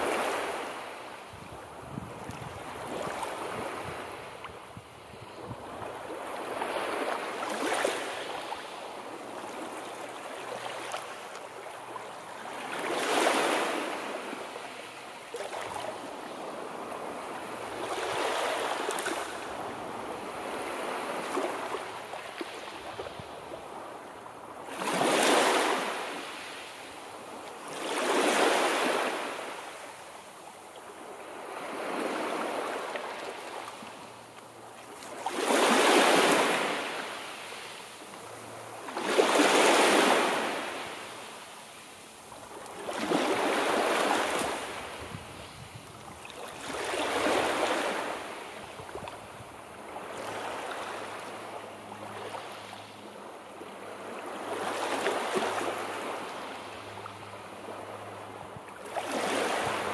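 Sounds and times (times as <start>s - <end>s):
sea waves breaking: 5.5s - 30.0s, 30.9s - 45.6s, 46.2s - 53.1s, 53.7s - 59.9s.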